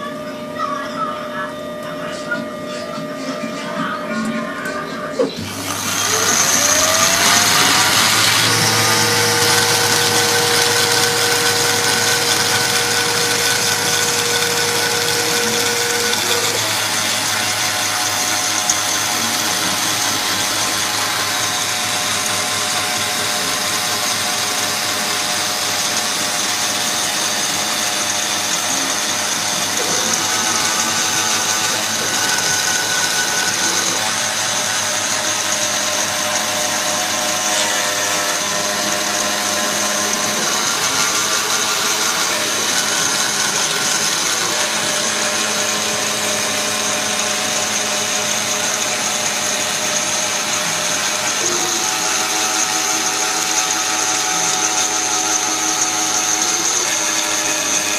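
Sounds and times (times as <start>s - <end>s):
motor tones shifting pitch: 0.0s - 57.9s
router spindle high whine: 0.0s - 57.9s.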